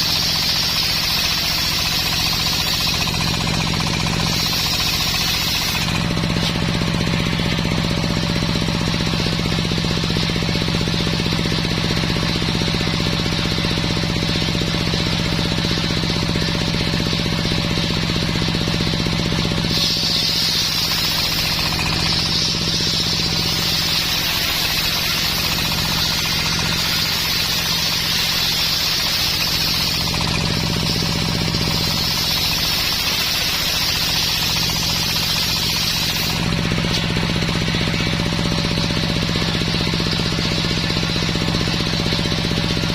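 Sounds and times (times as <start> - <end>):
saw blade hissing through wood: 0.0 - 42.7
engine pulsing: 0.0 - 42.9.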